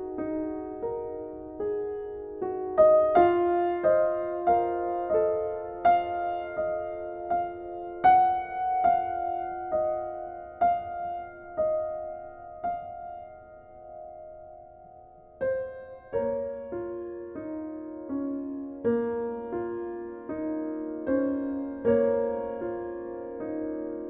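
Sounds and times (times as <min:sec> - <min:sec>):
gentle solo piano music: 0:00.0 - 0:24.0.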